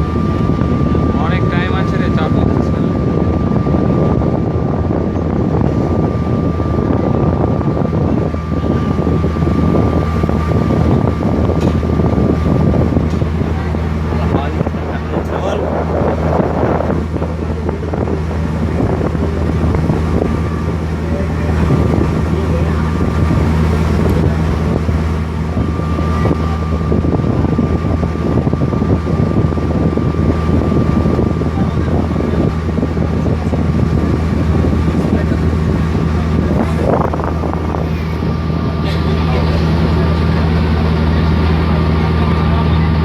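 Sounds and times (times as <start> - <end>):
boat engine droning: 0.0 - 43.0
faint steady whine: 0.0 - 43.0.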